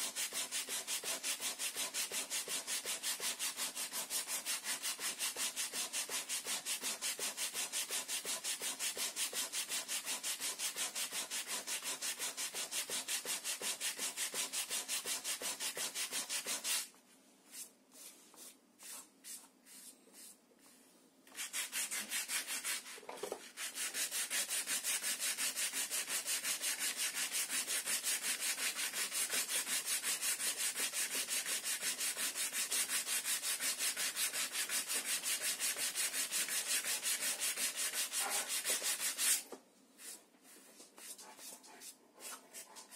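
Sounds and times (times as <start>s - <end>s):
sandpaper rubbing on wood: 0.0s - 16.9s, 21.4s - 42.7s.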